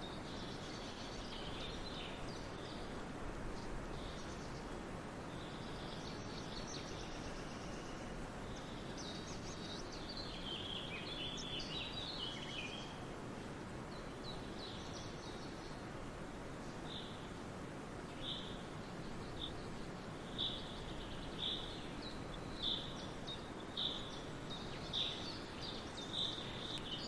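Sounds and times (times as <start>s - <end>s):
background hiss: 0.0s - 27.0s
songbirds chirping and trilling: 0.0s - 27.0s.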